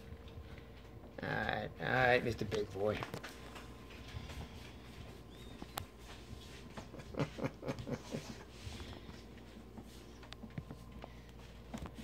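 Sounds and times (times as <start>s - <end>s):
low steady room hum: 0.0s - 12.0s.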